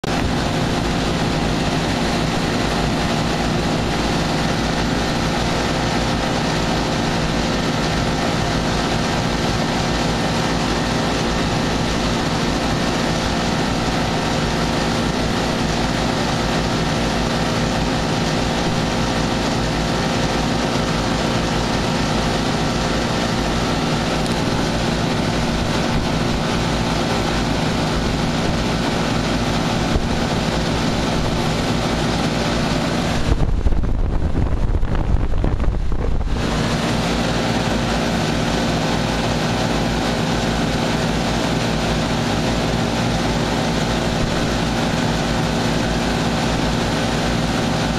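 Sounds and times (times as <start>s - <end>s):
heat pump fans blowing air: 0.0s - 47.9s
steady multi-tone hum: 0.0s - 47.9s.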